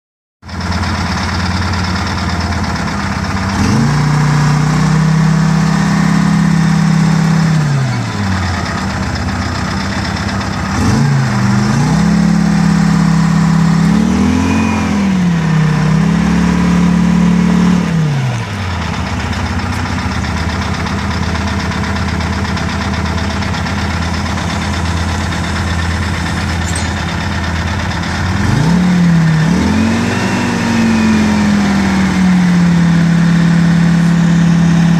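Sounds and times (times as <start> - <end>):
diesel engine idling and revving: 0.4 - 34.9.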